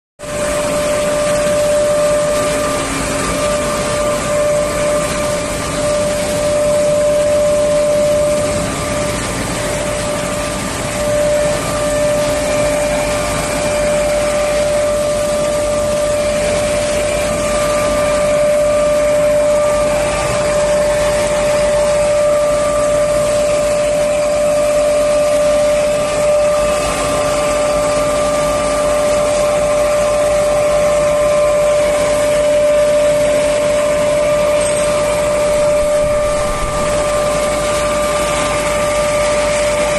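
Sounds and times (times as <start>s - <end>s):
constant machine whine: 0.2s - 39.9s
machinery drone: 0.2s - 39.9s.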